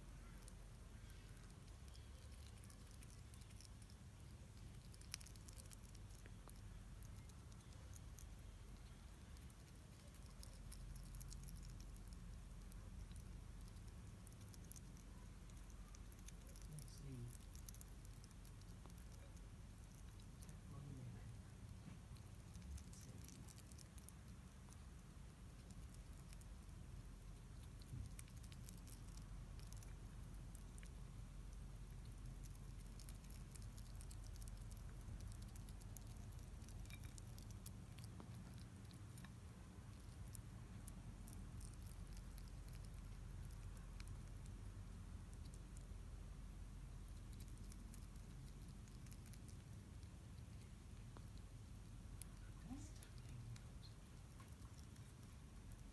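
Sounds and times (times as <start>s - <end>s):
hedgehog crunching kibble: 0.0s - 55.9s
low steady hum: 0.0s - 55.9s.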